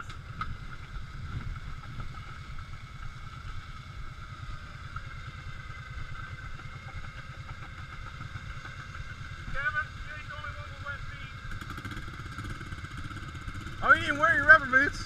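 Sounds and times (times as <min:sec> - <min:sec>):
engine idling rumble: 0:00.0 - 0:15.0.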